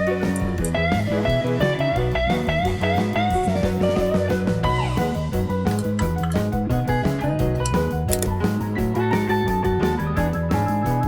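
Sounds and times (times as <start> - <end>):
upbeat guitar and bass music: 0.0 - 11.0.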